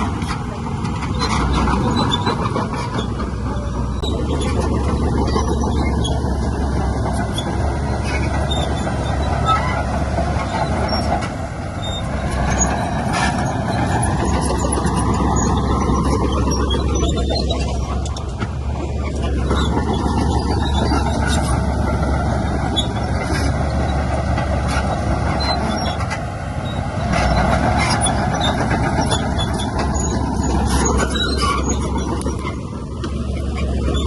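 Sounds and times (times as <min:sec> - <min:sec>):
diesel engine rumble: 0:00.0 - 0:34.0.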